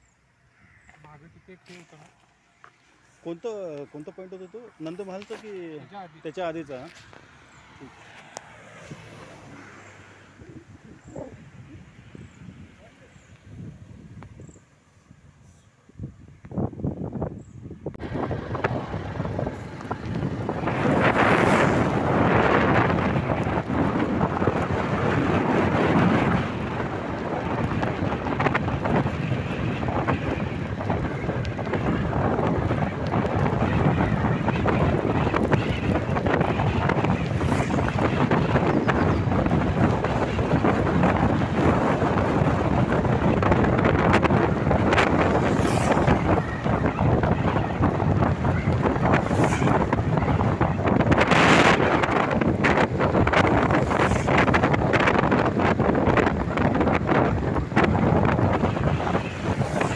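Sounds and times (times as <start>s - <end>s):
wind buffeting microphone: 3.2s - 59.9s.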